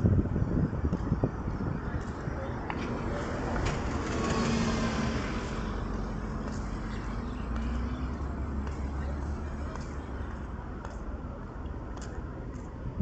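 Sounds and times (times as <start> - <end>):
background traffic: 0.0 - 13.0
vehicle passing: 0.5 - 11.4.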